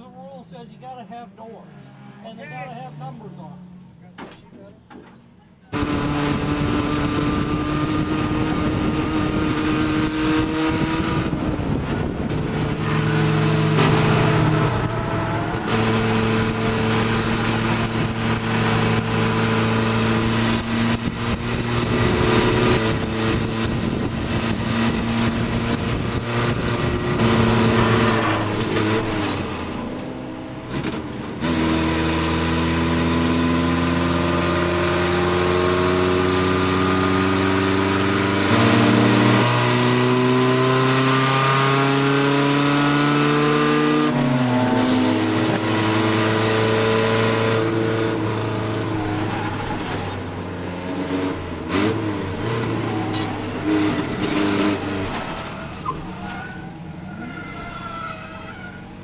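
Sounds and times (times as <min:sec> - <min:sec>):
wind and road noise: 0:00.0 - 0:59.0
race truck engine revving: 0:05.7 - 0:57.9.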